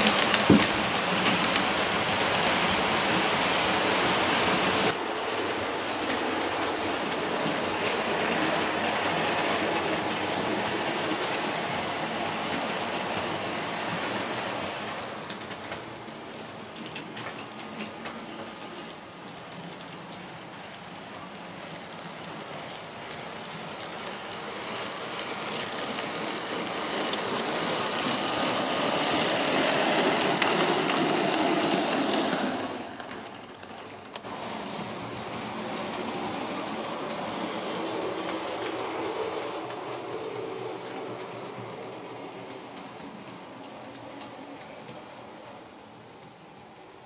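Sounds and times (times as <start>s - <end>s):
model trains rattling on track: 0.0s - 46.7s.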